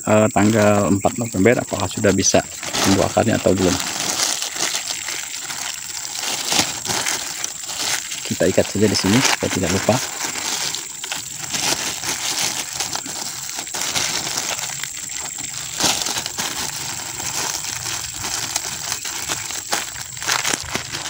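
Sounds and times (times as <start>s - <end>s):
plastic bag crinkling: 0.1s - 21.0s.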